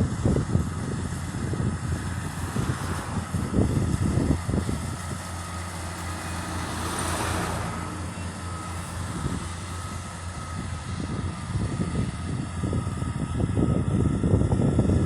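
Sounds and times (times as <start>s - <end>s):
farm machine engine running: 0.0s - 15.0s
wind buffeting microphone: 0.0s - 15.0s.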